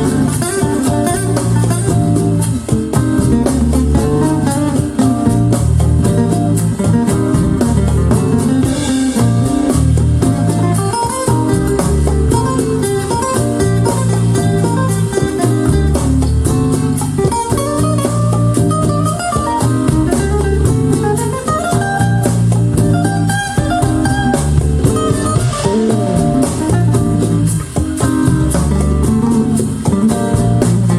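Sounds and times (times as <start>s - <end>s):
bass line: 0.0s - 30.9s
drum kit: 0.0s - 30.9s
guitar melody: 0.0s - 30.9s.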